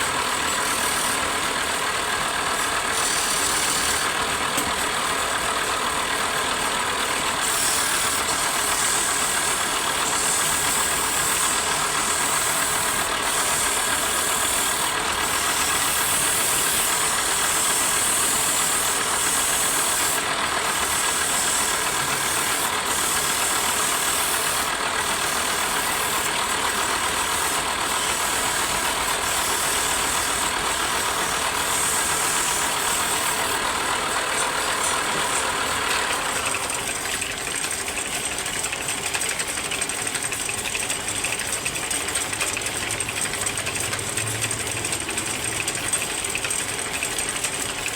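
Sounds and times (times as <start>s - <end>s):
wood lathe running: 0.0s - 47.9s.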